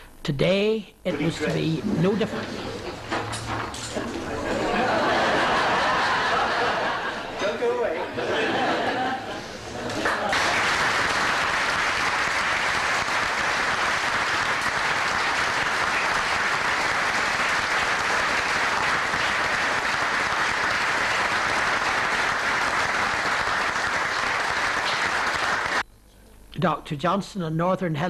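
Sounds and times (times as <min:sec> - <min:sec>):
crowd clapping: 0:01.5 - 0:25.8.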